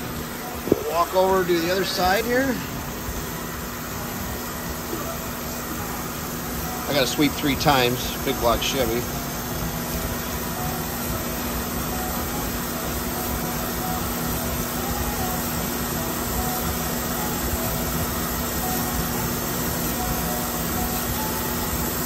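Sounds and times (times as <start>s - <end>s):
grinding wheel rushing noise: 0.0s - 22.0s
low machine hum: 0.0s - 22.0s.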